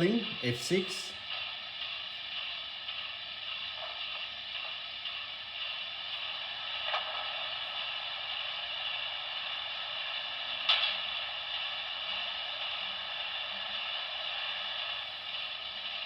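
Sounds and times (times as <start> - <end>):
water hiss from small speaker: 0.0 - 16.0.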